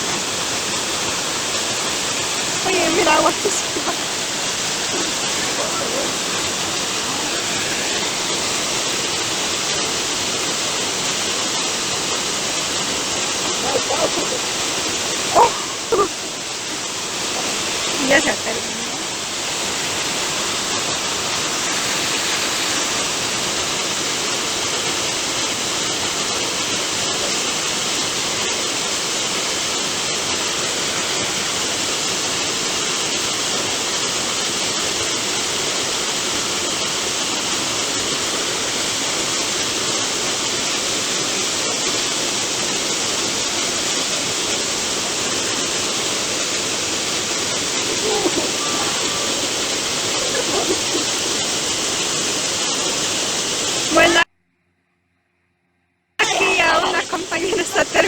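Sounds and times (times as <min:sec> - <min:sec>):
waterfall rushing: 0:00.0 - 0:54.2, 0:56.2 - 0:58.0.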